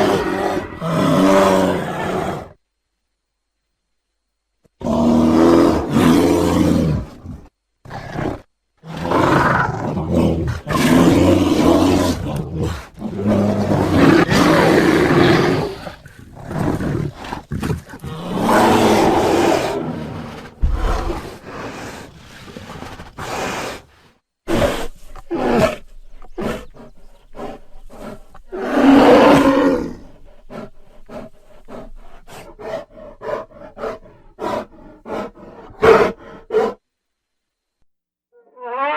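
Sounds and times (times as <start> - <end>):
bear growling: 0.0 - 2.6, 4.8 - 36.8.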